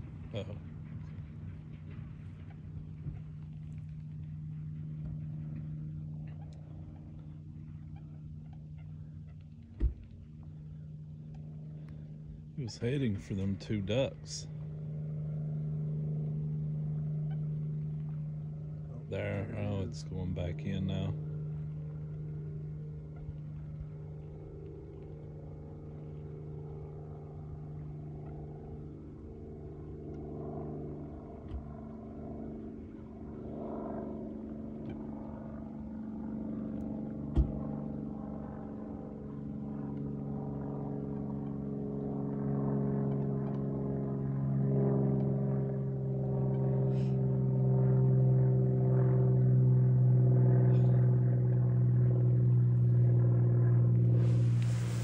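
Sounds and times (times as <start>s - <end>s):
distant motor engine droning: 0.0s - 55.0s.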